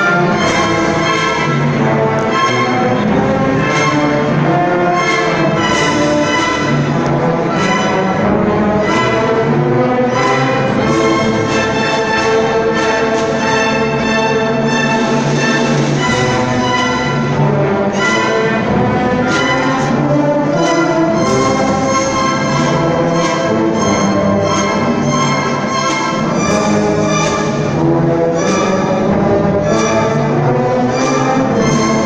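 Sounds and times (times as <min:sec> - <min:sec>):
orchestra playing classical music: 0:00.0 - 0:32.0.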